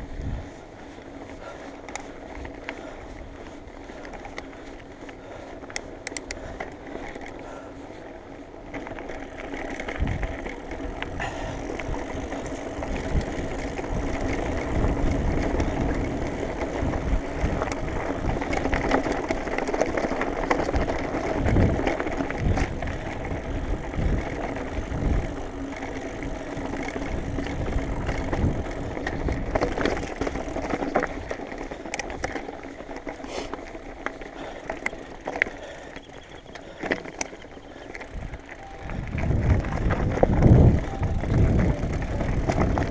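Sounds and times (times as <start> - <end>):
wind rumbling on microphone: 0.0 - 4.6, 8.6 - 33.1, 36.2 - 42.9
bike rattling and thudding: 0.0 - 42.9
bike tyres on gravel: 0.0 - 42.9.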